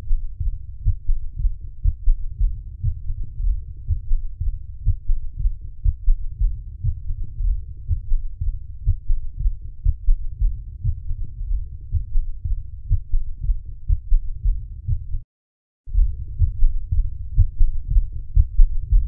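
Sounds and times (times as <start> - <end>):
galloping heartbeat: 0.0 - 15.2, 15.9 - 19.0.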